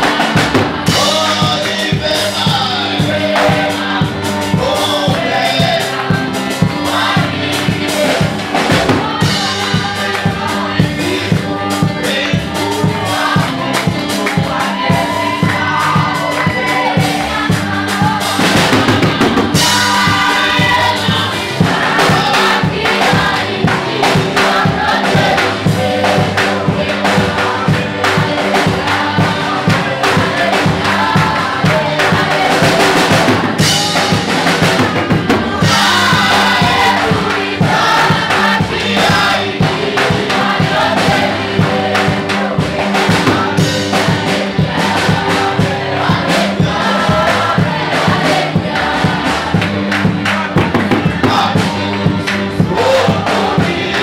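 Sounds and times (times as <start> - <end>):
choir singing: 0.0 - 54.0
drum kit beat: 0.0 - 54.0.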